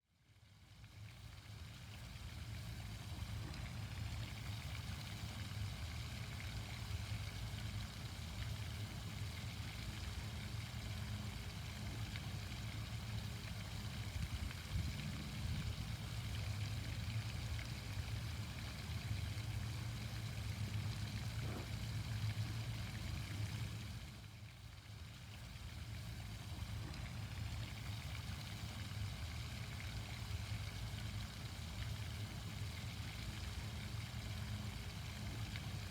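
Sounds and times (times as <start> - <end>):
fountain water splashing: 0.2 - 35.9.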